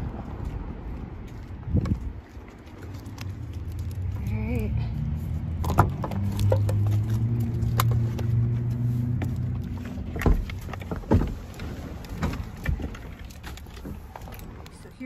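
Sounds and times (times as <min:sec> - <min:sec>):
van engine humming: 0:00.0 - 0:15.0.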